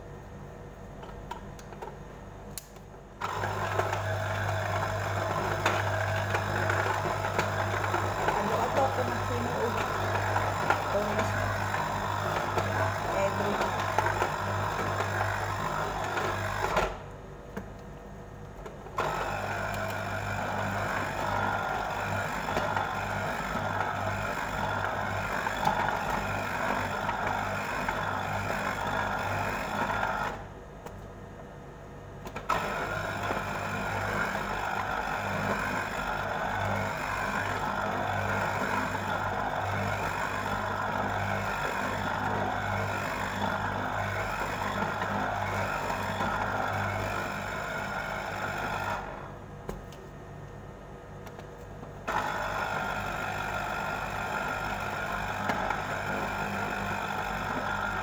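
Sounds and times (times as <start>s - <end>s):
juicer motor whirring: 1.0s - 31.2s, 31.8s - 58.0s.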